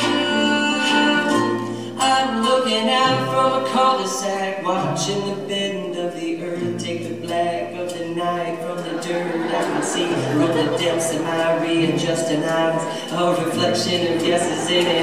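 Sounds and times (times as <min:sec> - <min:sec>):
voices singing: 0:00.0 - 0:05.0, 0:06.2 - 0:15.0
strummed acoustic guitar: 0:00.0 - 0:15.0
ukulele: 0:00.0 - 0:15.0
upright bass: 0:00.0 - 0:15.0.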